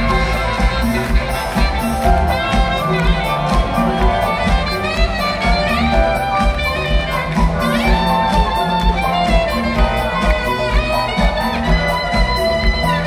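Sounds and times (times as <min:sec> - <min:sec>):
brass instruments: 0:00.0 - 0:13.0
orchestra playing pop music: 0:00.0 - 0:13.0
steady drum beat: 0:00.0 - 0:13.0.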